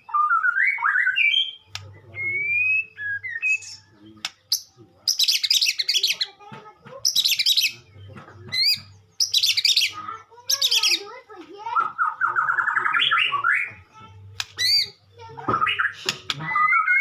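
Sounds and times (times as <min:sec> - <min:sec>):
bird warbling song: 0:00.0 - 0:06.4, 0:07.0 - 0:17.0
soft bird calls: 0:00.0 - 0:17.0.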